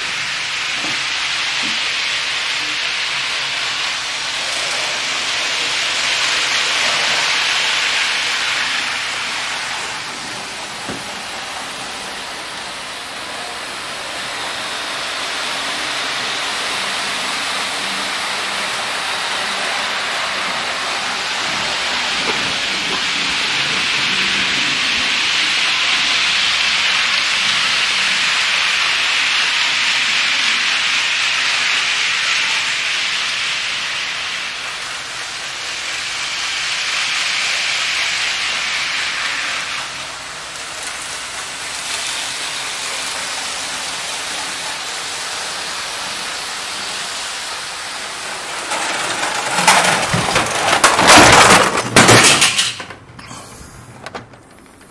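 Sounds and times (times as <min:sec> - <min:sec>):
model train crashing clatter: 0:00.0 - 0:54.9
model train rolling hiss: 0:00.0 - 0:54.9.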